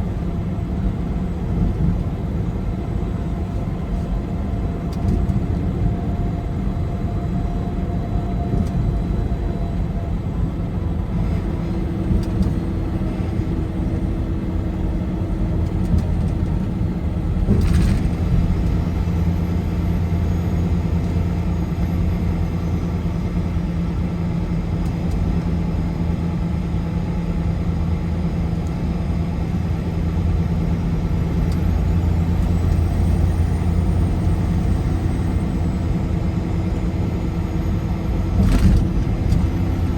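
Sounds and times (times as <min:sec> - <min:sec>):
car engine and tyre rumble: 0:00.0 - 0:39.9
droning hums: 0:00.0 - 0:39.9.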